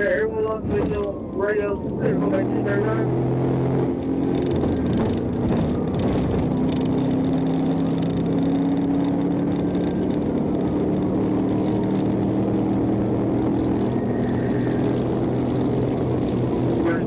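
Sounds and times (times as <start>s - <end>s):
car engine cruising: 0.0s - 17.0s
tyre and road noise: 0.0s - 17.0s.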